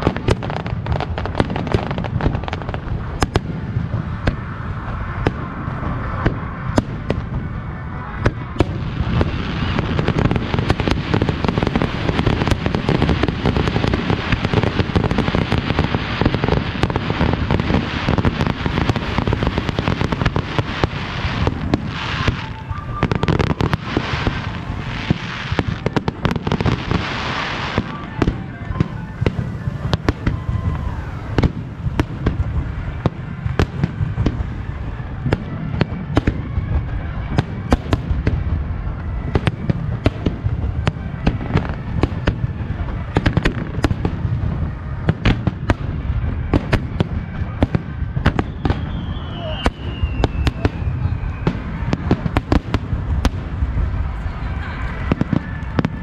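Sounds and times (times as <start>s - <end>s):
hissing crackle: 0.0s - 56.0s
low rumble: 0.0s - 56.0s.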